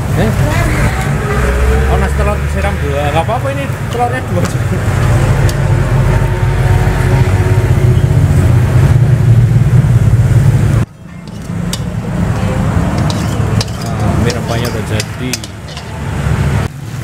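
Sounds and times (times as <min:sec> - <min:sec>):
gas stove burner roaring: 0:01.0 - 0:17.0.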